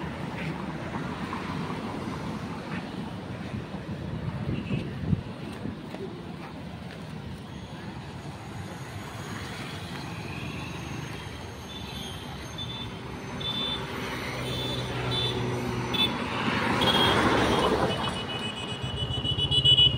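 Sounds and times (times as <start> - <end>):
road traffic passing: 0.0 - 19.9.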